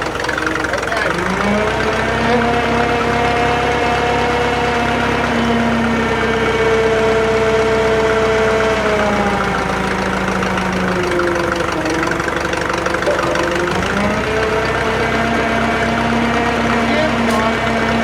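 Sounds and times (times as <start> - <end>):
crane engine running: 0.0 - 18.0.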